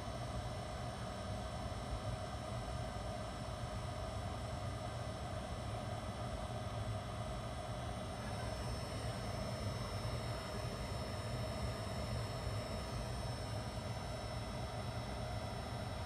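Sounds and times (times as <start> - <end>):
room hum and hiss: 0.0 - 16.0.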